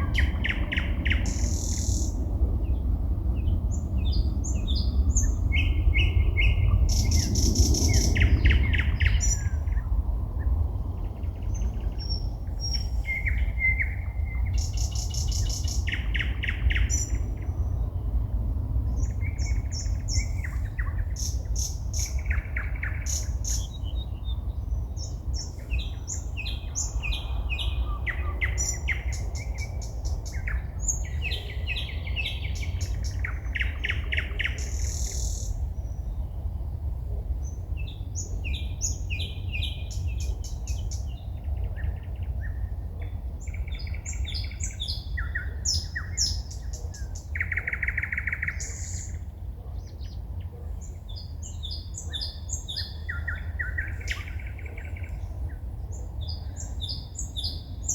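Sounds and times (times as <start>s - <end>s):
songbird singing trills: 0.0s - 36.6s, 37.4s - 57.9s
steady low rumble: 0.0s - 50.9s.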